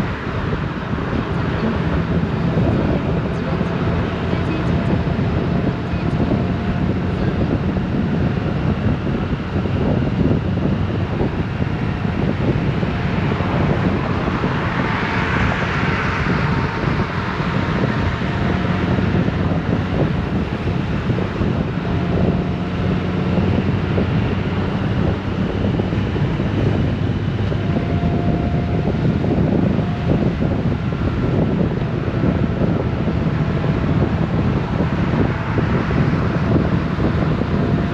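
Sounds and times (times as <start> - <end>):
motorcycle engine drone: 0.0 - 37.9
wind noise on microphone: 0.0 - 37.9.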